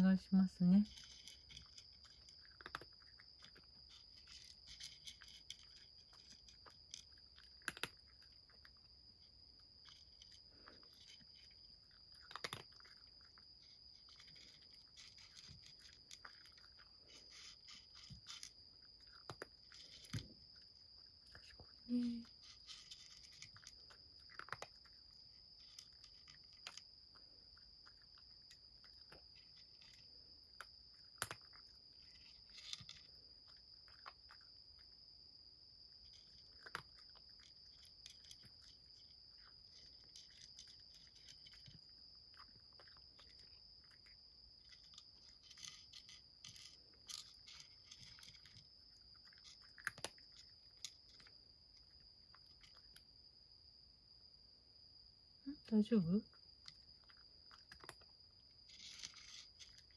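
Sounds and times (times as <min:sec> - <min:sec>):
cat crunching dry kibble: 0:00.8 - 0:35.0, 0:35.9 - 0:53.0, 0:56.7 - 0:59.9.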